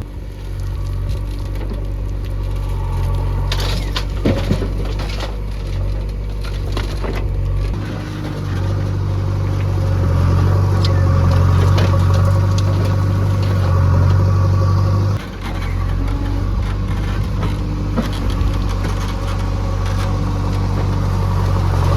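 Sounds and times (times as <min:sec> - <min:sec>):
backhoe diesel engine running: 0:00.0 - 0:21.9.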